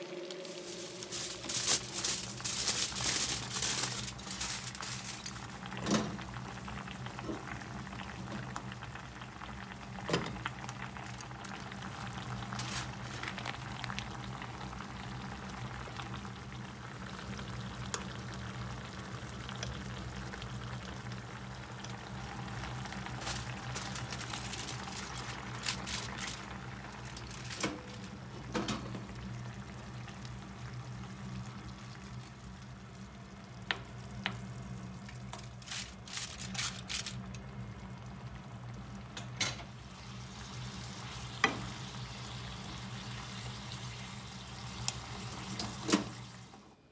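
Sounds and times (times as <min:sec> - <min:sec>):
broth bubbling in a pan: 0:05.1 - 0:27.4, 0:29.0 - 0:35.4, 0:37.2 - 0:46.7.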